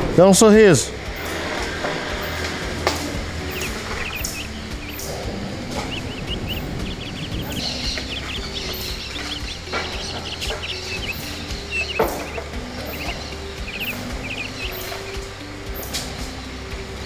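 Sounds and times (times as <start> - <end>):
birds chirping: 0.0 - 17.0
steady low rumble: 0.0 - 17.0
sharp knocks: 1.3 - 16.4.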